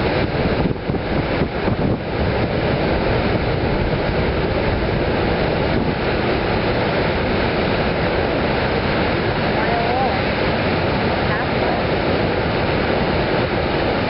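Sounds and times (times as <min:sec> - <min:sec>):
waterfall roaring: 0:00.0 - 0:14.0
wind buffeting microphone: 0:00.0 - 0:14.0.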